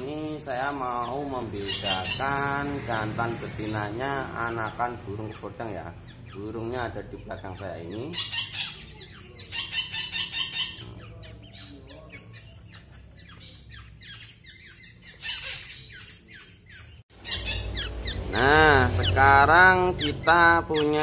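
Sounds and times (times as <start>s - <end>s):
nestlings begging squawks: 0.0s - 21.0s.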